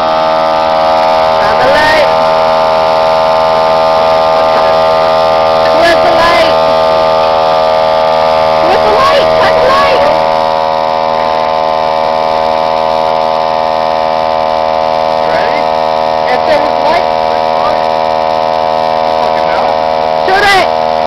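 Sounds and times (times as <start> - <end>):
loud electrical hum: 0.0 - 21.0.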